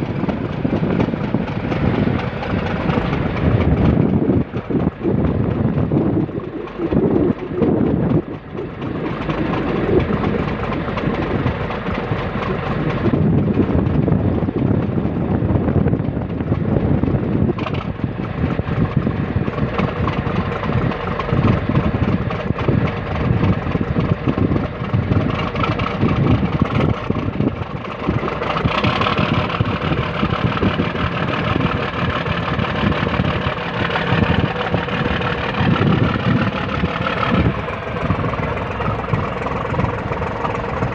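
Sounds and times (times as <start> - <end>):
diesel engines rumbling: 0.0 - 40.9.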